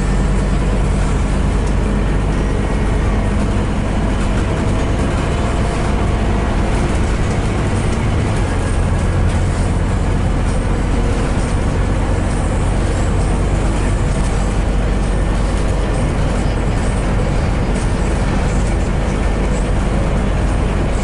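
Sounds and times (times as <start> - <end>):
bus body rattles: 0.0 - 21.0
bus diesel engine drone: 0.0 - 21.0
road noise: 0.0 - 21.0.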